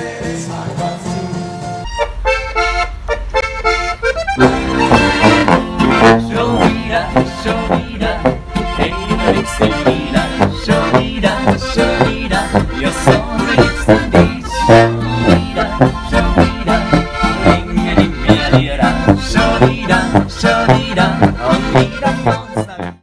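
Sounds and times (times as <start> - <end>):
acoustic guitar strumming: 0.0 - 23.0
button accordion folk music: 1.7 - 23.0
tuba bass: 1.8 - 23.0.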